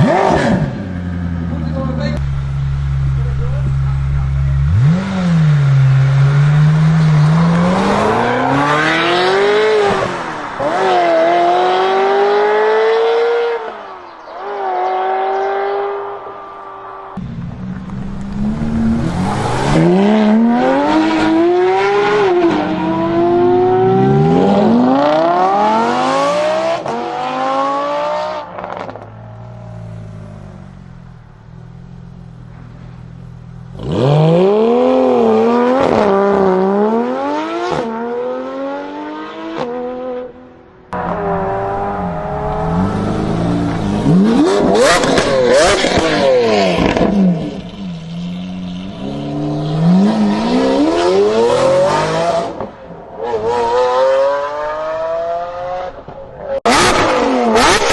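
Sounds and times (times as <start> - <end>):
sports car engines accelerating: 0.0 - 57.9.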